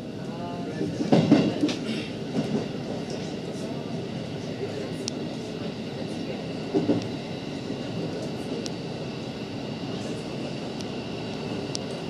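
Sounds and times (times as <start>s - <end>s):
electric train rolling on rails: 0.0s - 12.0s.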